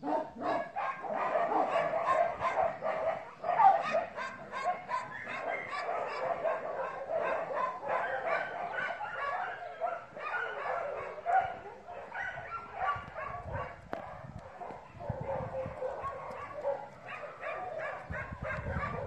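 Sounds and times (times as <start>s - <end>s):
dog barking and yipping: 0.0s - 19.0s.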